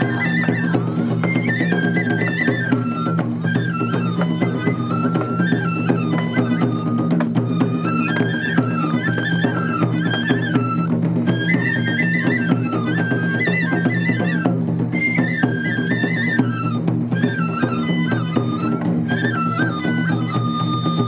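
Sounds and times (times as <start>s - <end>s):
bamboo flute melody: 0.0s - 21.0s.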